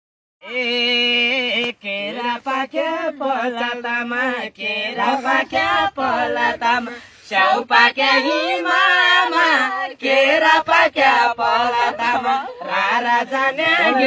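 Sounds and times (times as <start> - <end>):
person singing unaccompanied: 0.4 - 14.0.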